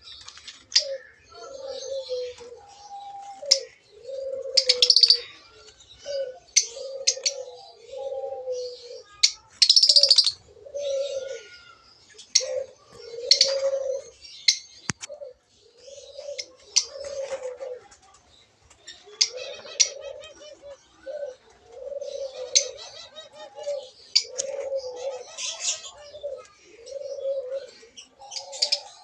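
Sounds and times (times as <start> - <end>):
lovebirds chirping and chattering: 0.0 - 29.0
low steady cooing: 0.8 - 14.2, 15.1 - 18.1, 19.0 - 29.0.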